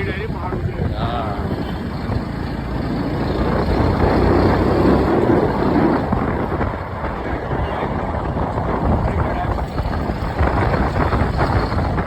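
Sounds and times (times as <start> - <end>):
motorcycle engine: 0.0 - 12.0
wind rushing over microphone: 0.0 - 12.0.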